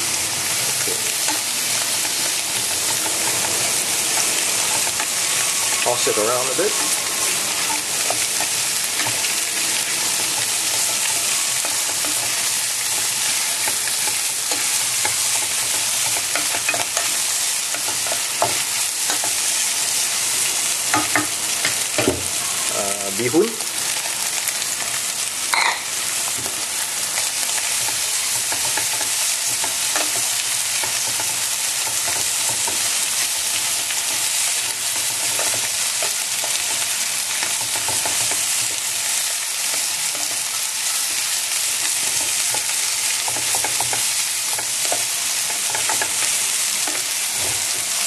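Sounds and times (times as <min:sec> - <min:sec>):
food frying in a pan: 0:00.0 - 0:48.0.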